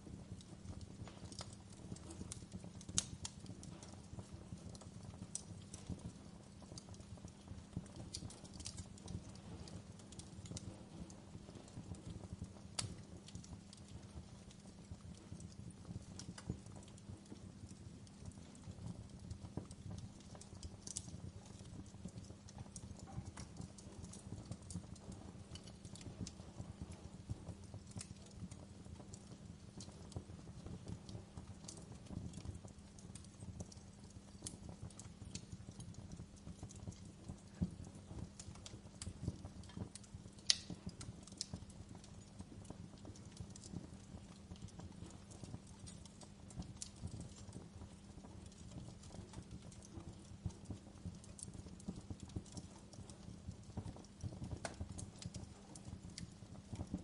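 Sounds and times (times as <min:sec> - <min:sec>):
low rumble of flame: 0:00.0 - 0:57.0
wood fire crackling: 0:00.0 - 0:57.0.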